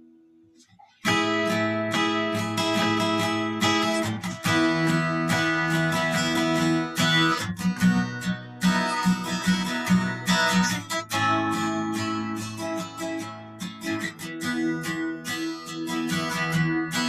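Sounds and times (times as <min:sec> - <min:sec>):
acoustic guitar strumming: 0:00.8 - 0:17.0.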